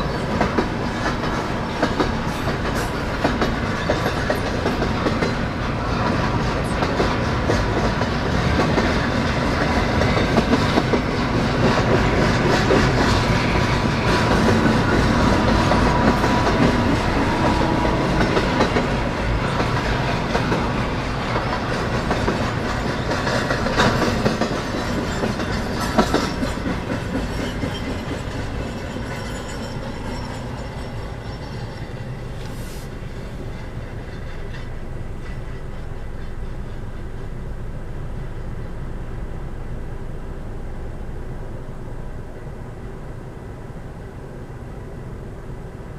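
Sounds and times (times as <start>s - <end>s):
wheels clicking over rail joints: 0.0s - 37.4s
freight train cars rolling: 0.0s - 45.9s.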